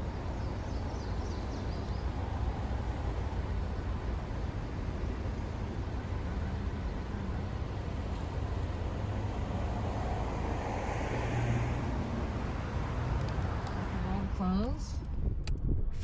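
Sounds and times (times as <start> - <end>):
car road and engine rumble: 0.0 - 15.7.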